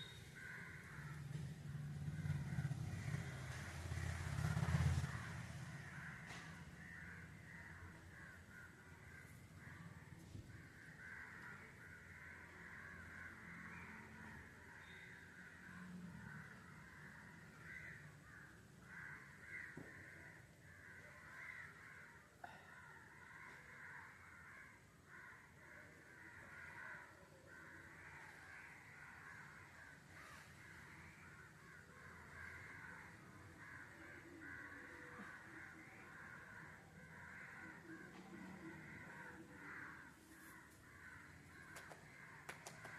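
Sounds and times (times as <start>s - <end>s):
chorus of birds calling: 0.0s - 42.9s.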